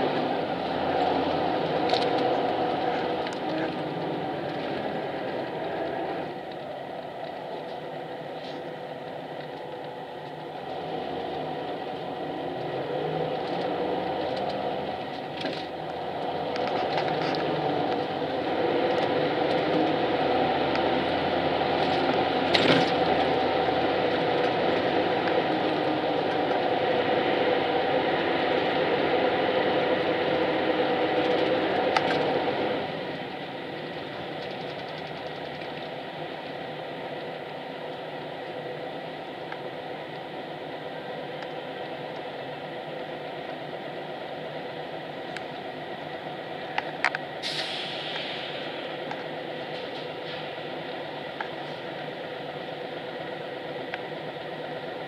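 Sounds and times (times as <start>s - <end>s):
bus engine and road noise: 0.0s - 55.0s
steady whine: 0.0s - 55.0s.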